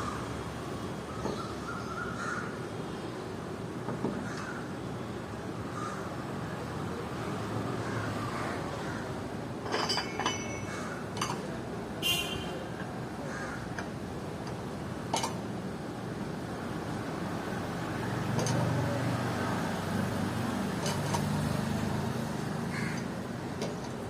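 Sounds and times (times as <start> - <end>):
low traffic hum: 0.0 - 24.0.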